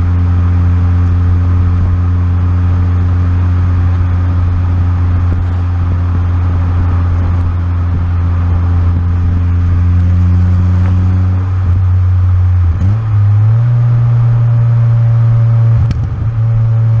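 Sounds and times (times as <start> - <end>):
car exhaust drone: 0.0 - 17.0.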